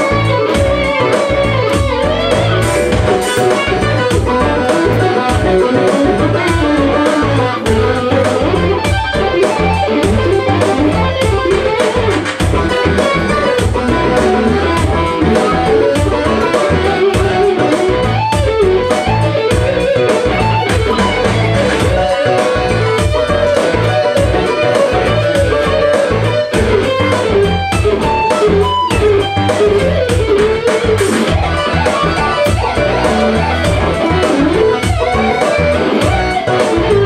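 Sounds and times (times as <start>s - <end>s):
electric guitar lead melody: 0.0s - 37.0s
low bass line: 0.0s - 37.0s
steady beat: 0.0s - 37.0s.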